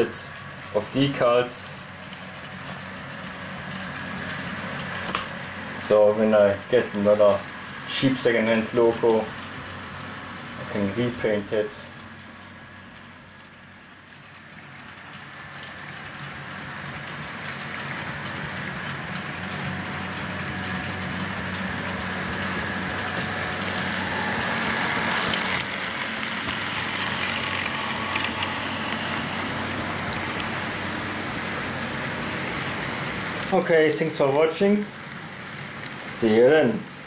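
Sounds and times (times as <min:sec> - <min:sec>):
model train motor hum: 0:00.0 - 0:37.0
wheels on rails: 0:00.0 - 0:37.0.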